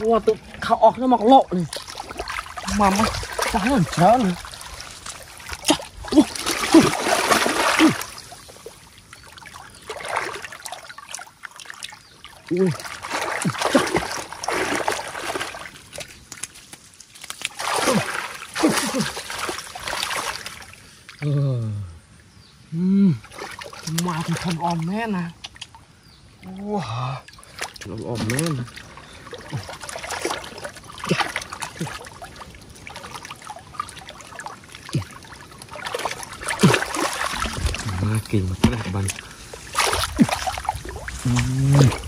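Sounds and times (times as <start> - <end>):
muddy water splashing: 0.0 - 21.4, 23.2 - 42.0.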